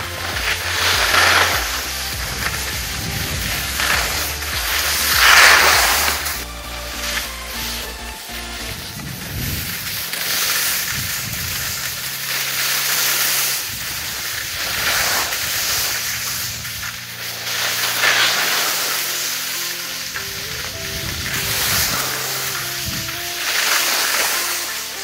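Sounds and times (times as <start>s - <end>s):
faint background music: 0.0s - 25.0s
skis scraping over packed snow: 0.0s - 25.0s.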